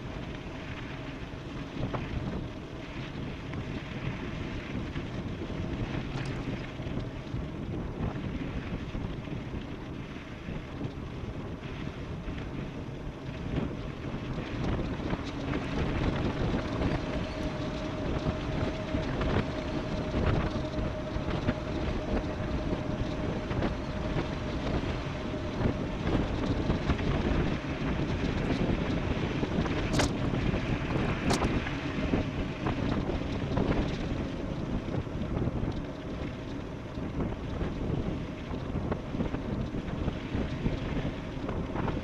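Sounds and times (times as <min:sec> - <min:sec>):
faint steady whine: 0:00.0 - 0:42.0
rolling tyre noise: 0:00.0 - 0:42.0
wind buffeting microphone: 0:00.0 - 0:42.0.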